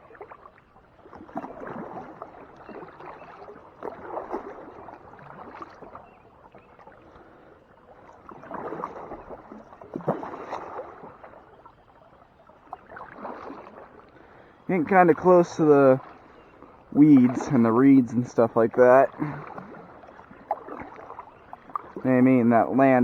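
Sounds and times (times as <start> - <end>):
kayak paddle splashing in water: 0.0 - 23.0
water dripping from paddle: 0.1 - 23.0.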